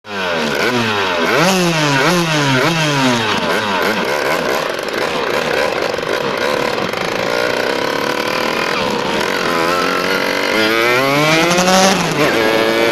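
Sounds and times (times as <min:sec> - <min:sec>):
two-stroke moped engine revving: 0:00.0 - 0:12.9.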